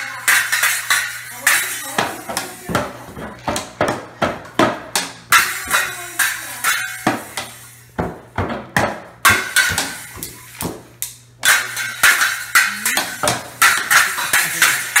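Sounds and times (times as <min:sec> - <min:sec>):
toy drum hits: 0:00.0 - 0:15.0.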